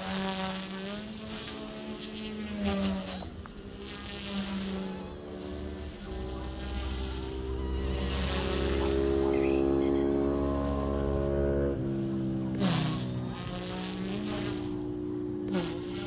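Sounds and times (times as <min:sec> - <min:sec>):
rc helicopter motor whine: 0:00.0 - 0:16.0
rotor noise bursts: 0:00.0 - 0:16.0.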